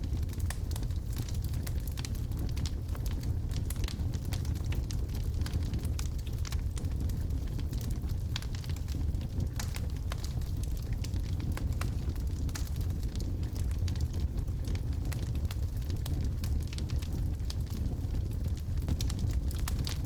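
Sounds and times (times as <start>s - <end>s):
wood logs burning: 0.0s - 20.0s.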